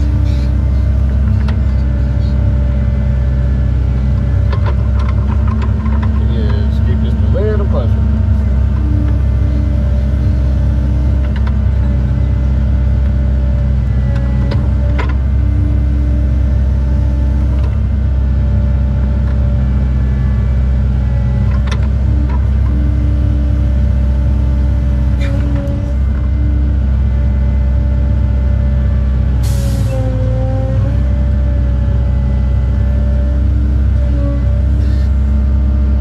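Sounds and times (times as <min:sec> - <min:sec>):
excavator engine and hydraulics: 0:00.0 - 0:36.0.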